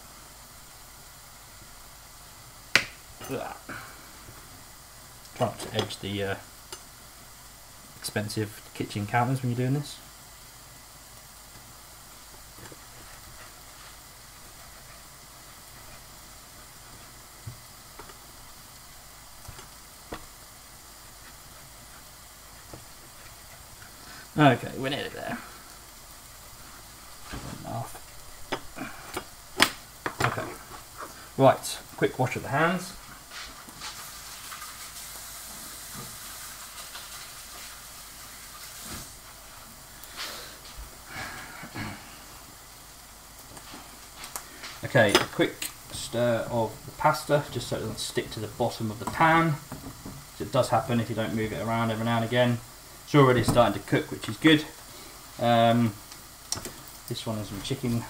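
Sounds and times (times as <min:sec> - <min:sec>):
chicken sizzling in a frying pan: 0:00.0 - 0:58.0.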